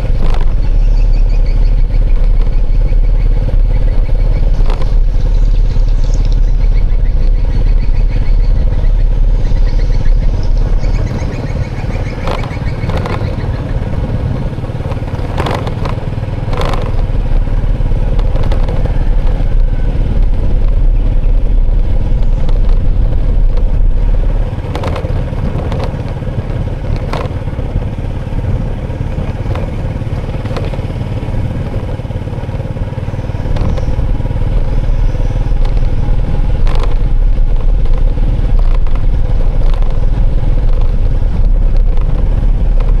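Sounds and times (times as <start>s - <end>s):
sharp clicks and clatters: 0.0s - 5.2s, 10.6s - 43.0s
motorbike and traffic rumble: 0.0s - 43.0s.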